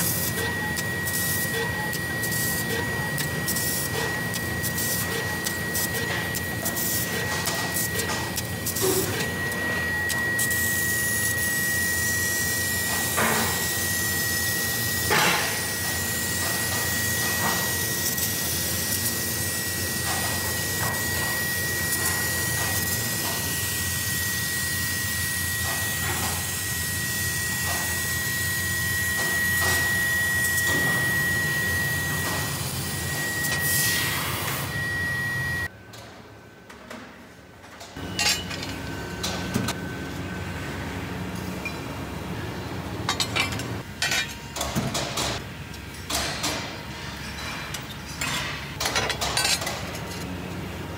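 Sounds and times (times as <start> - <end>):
laser cutting machine whine: 0.0 - 35.8, 38.0 - 50.9.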